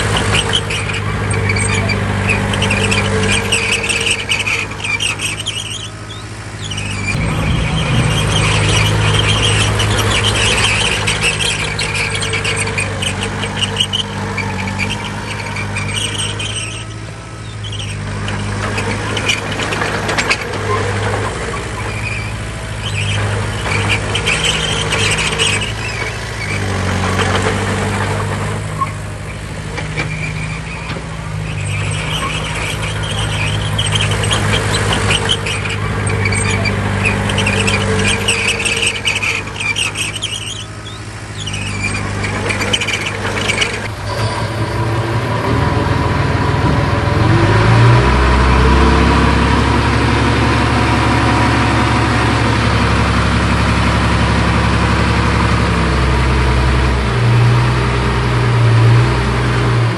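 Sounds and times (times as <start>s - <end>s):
heavy machinery engine drone: 0.0s - 59.9s
high-pitched squealing and clattering: 0.0s - 59.9s.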